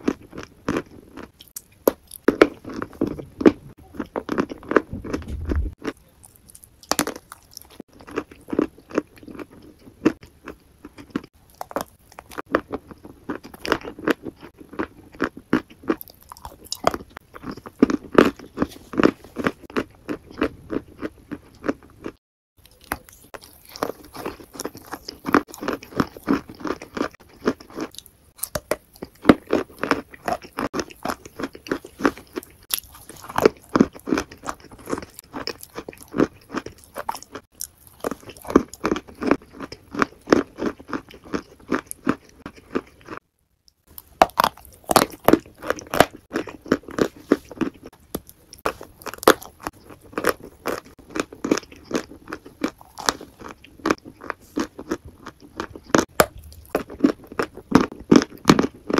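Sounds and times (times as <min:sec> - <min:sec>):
chewing and crunching food: 0:00.0 - 0:58.9.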